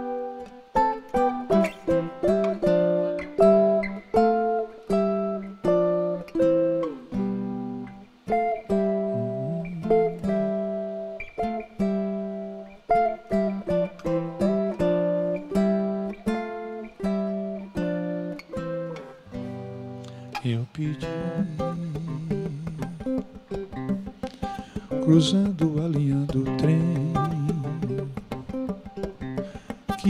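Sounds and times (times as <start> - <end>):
acoustic guitars playing: 0.0 - 30.0.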